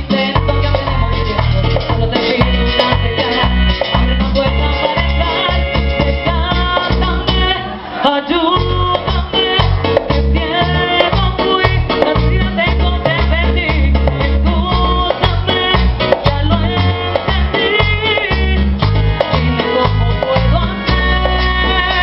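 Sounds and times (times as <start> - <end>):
latin dance band music: 0.0 - 22.0
person singing: 0.0 - 22.0.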